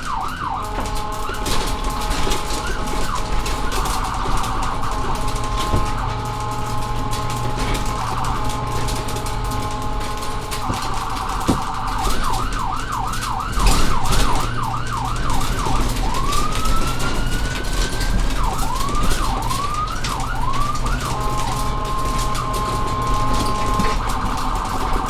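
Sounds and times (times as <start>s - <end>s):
electronic siren: 0.0s - 25.0s.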